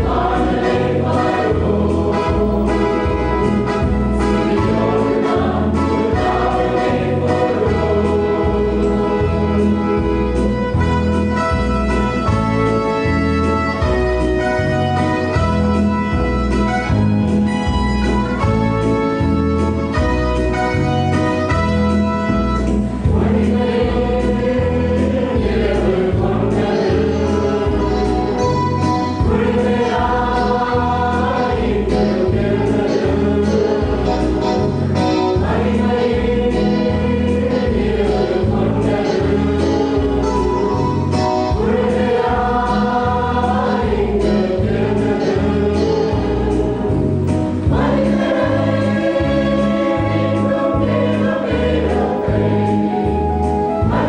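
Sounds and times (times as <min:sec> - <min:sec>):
choir singing a carol: 0:00.0 - 0:16.9, 0:21.6 - 0:54.0.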